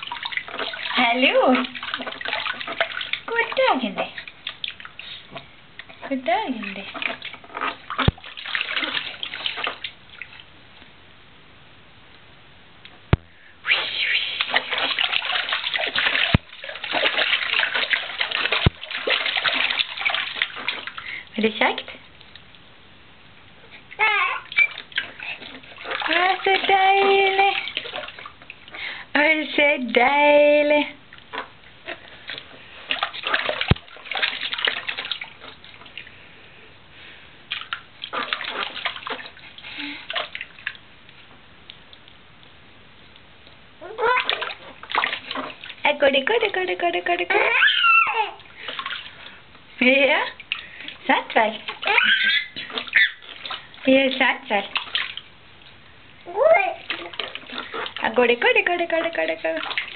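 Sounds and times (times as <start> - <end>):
bathwater splashing and sloshing: 0.0 - 11.2, 13.2 - 59.9.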